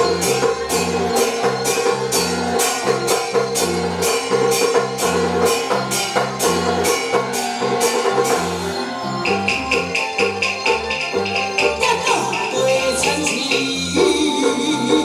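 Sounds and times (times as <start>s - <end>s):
held melody tone: 0.0s - 15.0s
sharp percussion strikes: 0.0s - 15.0s.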